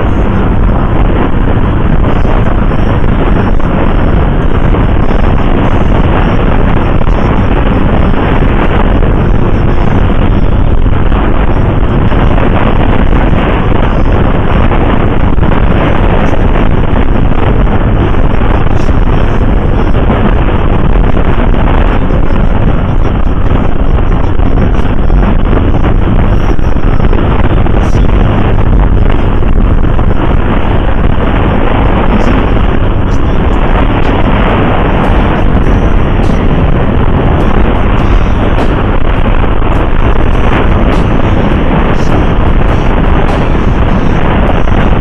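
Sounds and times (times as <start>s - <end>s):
road noise: 0.0s - 45.0s
wind rush over microphone: 0.0s - 45.0s.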